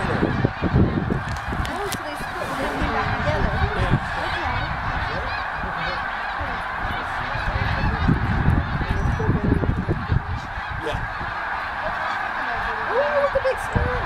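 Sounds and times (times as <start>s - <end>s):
geese honking in flight: 0.0s - 14.0s.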